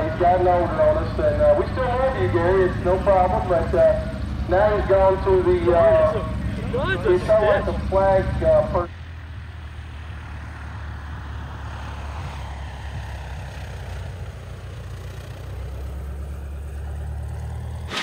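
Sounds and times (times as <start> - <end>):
light plane flying low past: 0.0 - 18.0.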